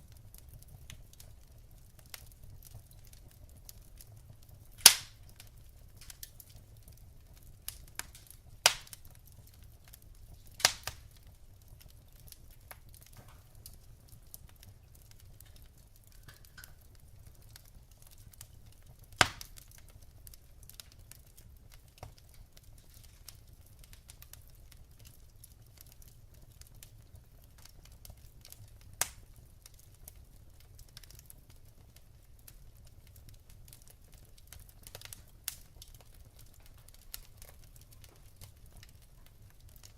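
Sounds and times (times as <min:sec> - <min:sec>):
logs crackling in a fireplace: 0:00.0 - 0:39.9.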